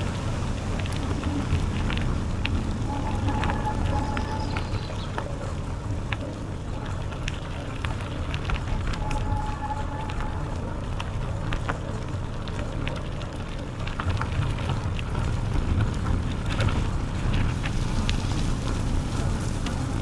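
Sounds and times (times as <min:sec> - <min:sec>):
crackles and ticks from bike: 0:00.0 - 0:20.0
wind rumble on microphone: 0:00.0 - 0:20.0.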